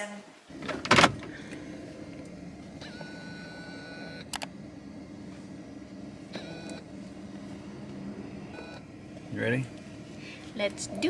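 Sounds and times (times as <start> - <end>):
high steady whine: 0.5 - 11.0
vehicle running low hum: 0.5 - 11.0.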